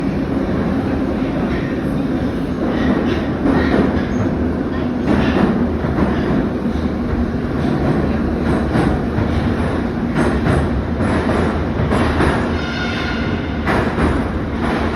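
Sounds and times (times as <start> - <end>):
train rumbling through station: 0.0 - 14.9.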